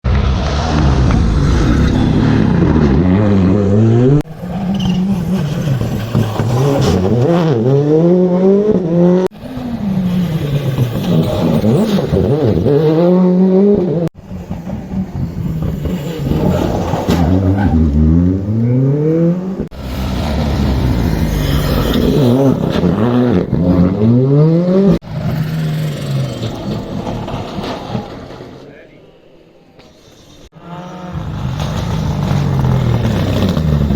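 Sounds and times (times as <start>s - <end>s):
rally car engines at full throttle: 0.0s - 28.7s, 29.8s - 33.9s.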